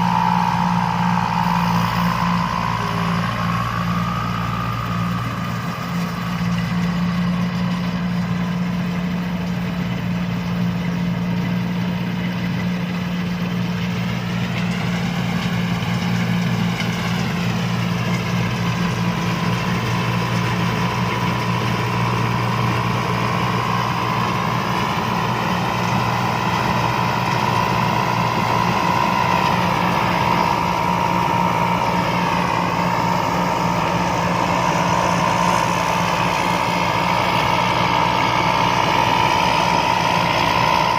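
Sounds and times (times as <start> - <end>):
high whine: 0.0 - 11.6, 12.9 - 40.9
diesel engine running: 0.0 - 40.9.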